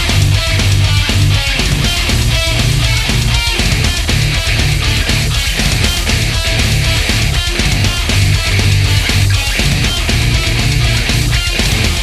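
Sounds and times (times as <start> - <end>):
bass guitar: 0.0 - 12.0
distorted electric guitars: 0.0 - 12.0
drums: 0.0 - 12.0.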